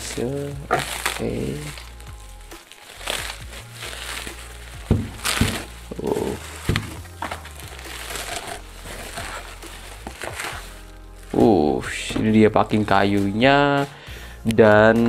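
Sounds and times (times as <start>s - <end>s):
plastic sack rustling and crinkling: 0.0s - 13.2s.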